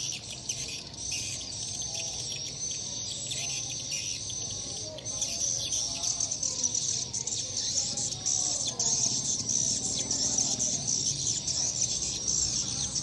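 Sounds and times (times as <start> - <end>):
low wavering bird calls: 0.0 - 13.0
swiftlets twittering: 0.0 - 13.0.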